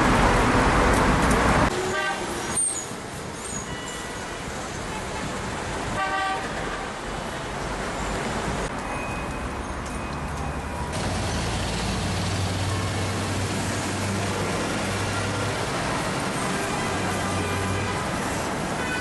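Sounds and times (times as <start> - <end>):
passing cars and buses: 0.0 - 19.0.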